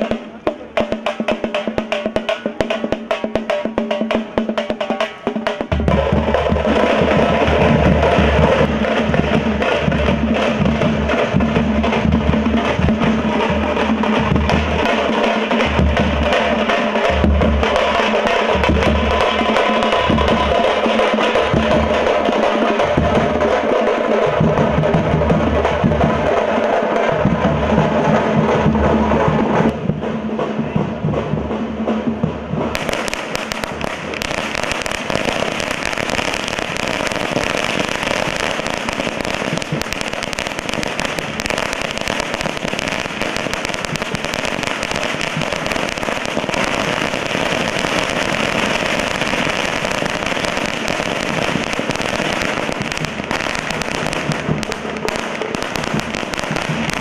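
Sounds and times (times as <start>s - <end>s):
firecrackers crackling: 0.0s - 57.0s
hand drums beating: 0.0s - 57.0s.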